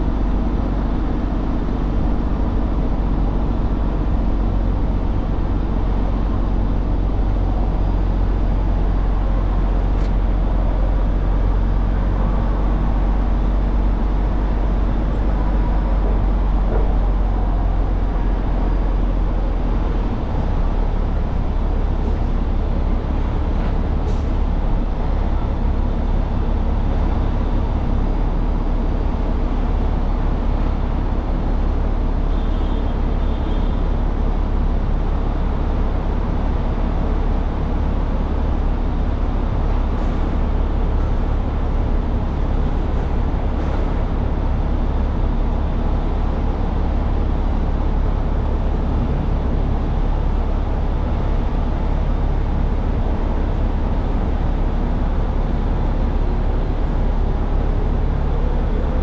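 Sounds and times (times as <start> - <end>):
truck engine rumbling: 0.0 - 59.0.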